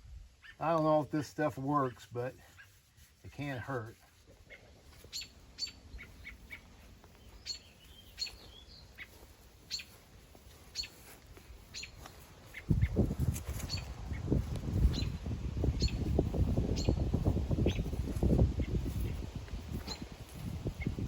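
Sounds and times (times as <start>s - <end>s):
small birds chirping: 0.3s - 21.0s.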